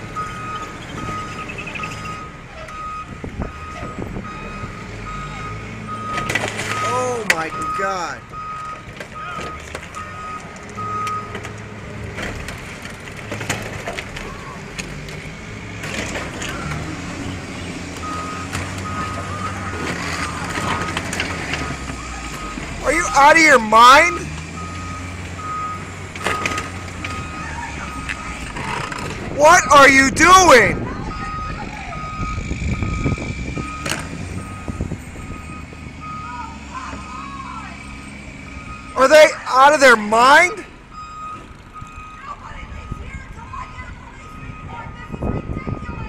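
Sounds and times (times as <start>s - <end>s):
heavy vehicle engine running: 0.0s - 46.0s
reversing alarm beeping: 0.2s - 11.4s, 18.0s - 28.8s, 29.4s - 46.0s.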